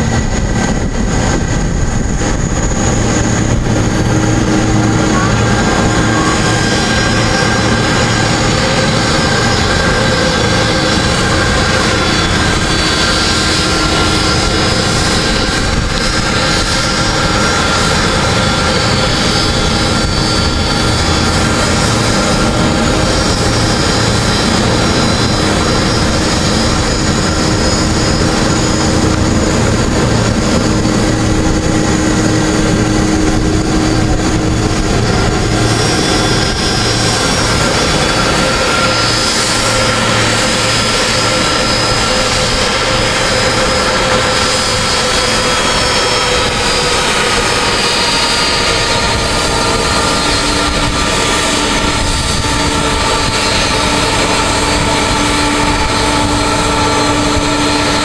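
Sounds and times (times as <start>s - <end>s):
jet engines rumbling with whine: 0.0s - 58.0s.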